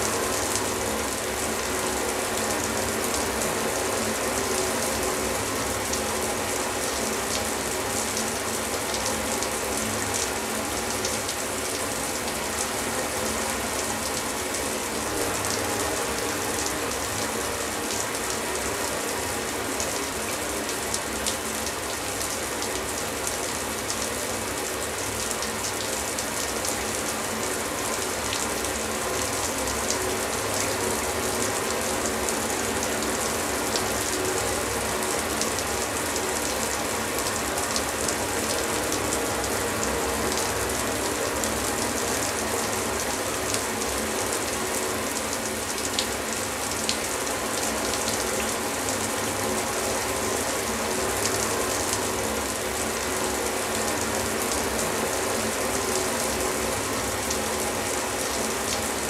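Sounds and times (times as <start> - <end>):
shower running: 0.0 - 59.0.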